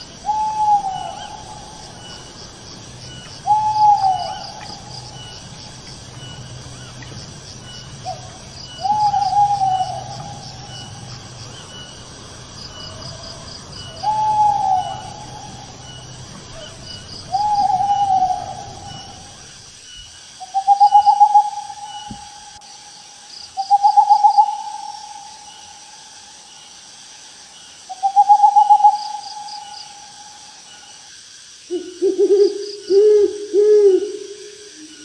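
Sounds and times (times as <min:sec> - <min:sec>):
owl calling: 0:00.0 - 0:19.8, 0:20.4 - 0:22.6, 0:23.6 - 0:25.6, 0:27.9 - 0:30.9, 0:31.7 - 0:35.0
insects chirping: 0:00.0 - 0:35.0.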